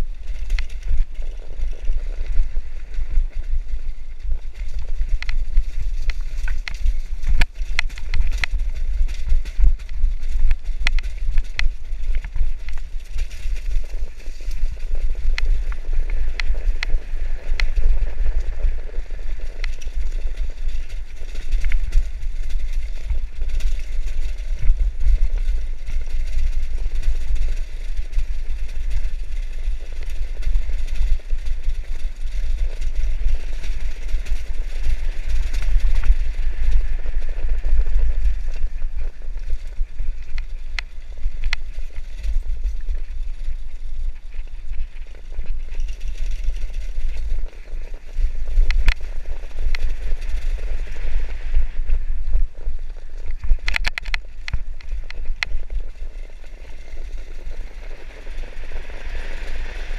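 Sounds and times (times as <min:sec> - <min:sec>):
bike rattling over rocks: 0:00.0 - 0:59.9
wind rumbling on microphone: 0:00.0 - 0:59.9.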